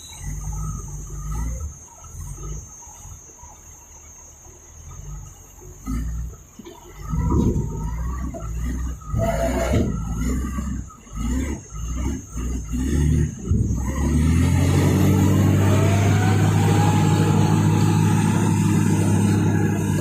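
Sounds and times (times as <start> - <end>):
diesel truck engine droning: 0.0 - 20.0.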